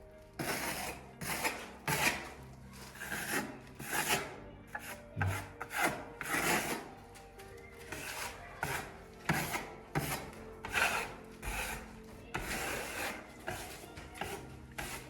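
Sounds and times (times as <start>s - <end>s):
steel trowel scraping plaster: 0.0s - 7.0s, 7.8s - 15.0s.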